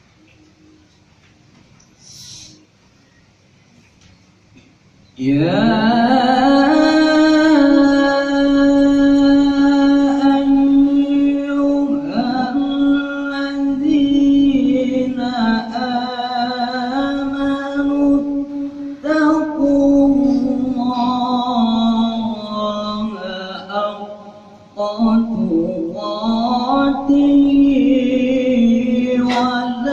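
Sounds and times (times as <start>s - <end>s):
man reciting melodically: 5.2s - 29.9s.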